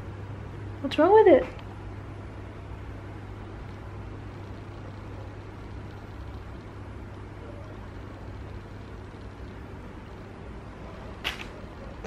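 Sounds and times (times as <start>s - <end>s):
low hum: 1.5s - 12.0s.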